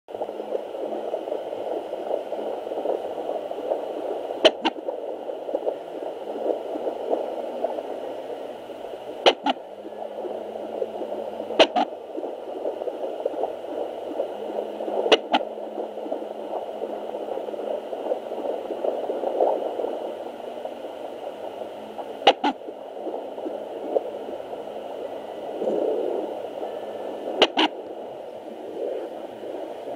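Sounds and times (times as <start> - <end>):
steady whooshing hiss: 0.1 - 29.9.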